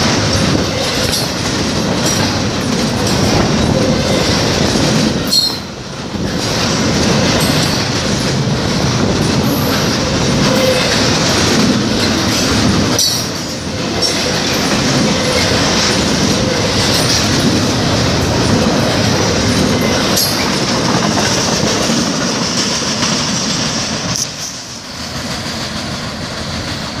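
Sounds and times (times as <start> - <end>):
freight train cars rolling past: 0.0 - 27.0
train clanks: 0.0 - 27.0.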